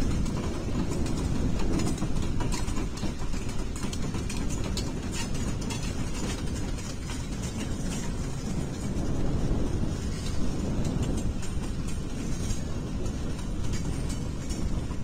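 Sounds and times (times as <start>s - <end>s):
diesel locomotive engine rumble: 0.0s - 15.0s
train wheels clattering over rails: 0.0s - 15.0s.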